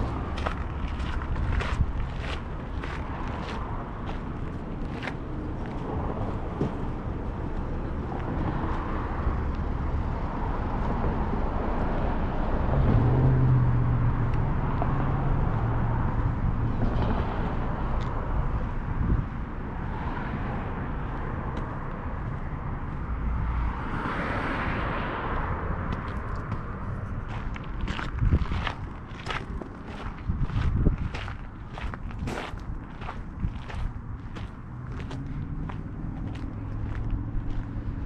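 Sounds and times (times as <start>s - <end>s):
low engine hum: 0.0s - 38.0s
outdoor background noise: 0.0s - 38.0s.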